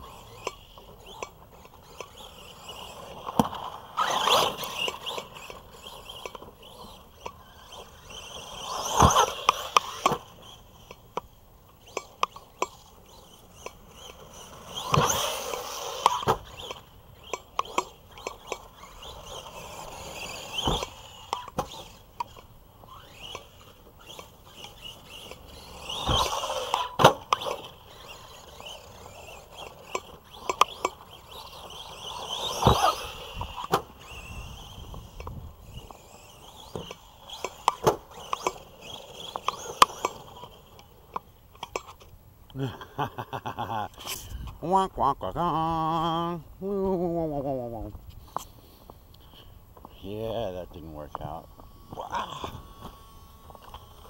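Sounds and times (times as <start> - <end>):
tyres scrabbling on dirt: 0.0 - 42.1, 47.5 - 54.0
toy truck electric motor whining: 0.0 - 54.0.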